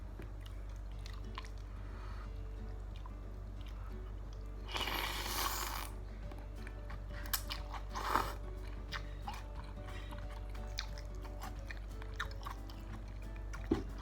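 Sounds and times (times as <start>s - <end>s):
chewing and biting food: 0.0s - 1.8s, 2.6s - 14.0s.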